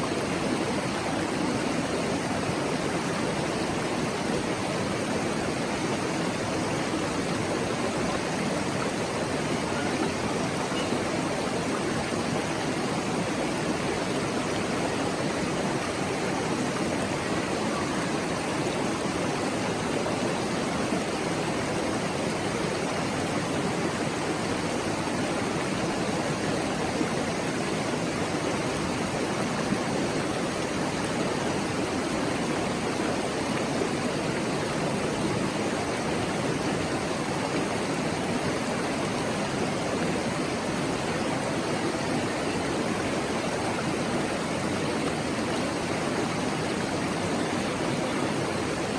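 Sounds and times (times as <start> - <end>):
river water flowing over rocks: 0.0 - 48.9.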